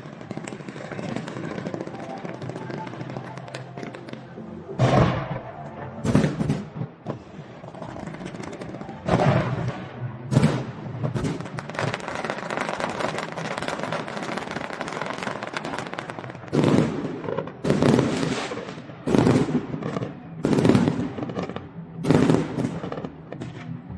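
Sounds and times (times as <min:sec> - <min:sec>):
dense firework crackling: 0:00.0 - 0:23.9.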